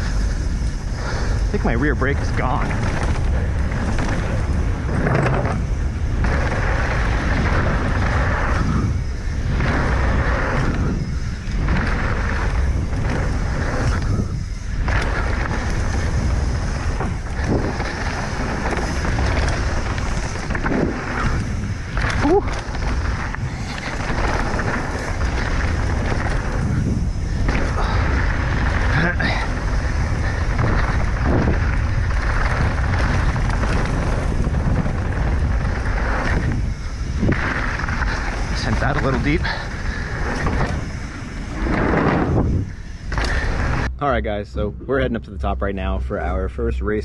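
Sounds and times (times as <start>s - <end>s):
bike tyres rumbling on dirt: 0.0s - 44.6s
wind buffeting microphone: 0.0s - 47.0s.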